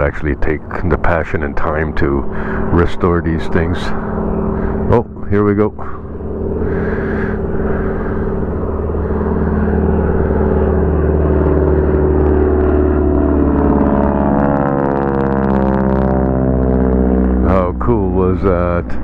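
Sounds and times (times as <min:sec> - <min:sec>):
propeller warplane droning past: 0:00.0 - 0:19.0.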